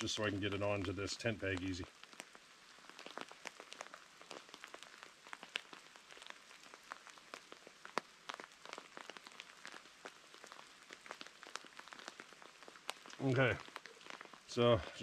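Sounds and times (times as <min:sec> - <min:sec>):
light rain drops ticking: 0:00.0 - 0:15.0.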